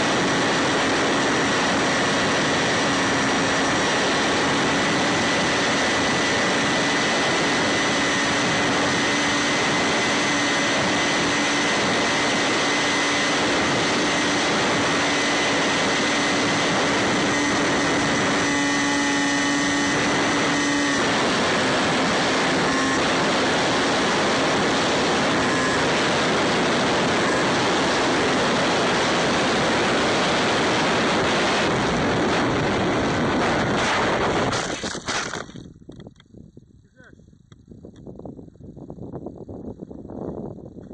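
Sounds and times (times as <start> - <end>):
electric motor propeller whining: 0.0 - 35.5
wind rushing over microphone: 0.0 - 40.9.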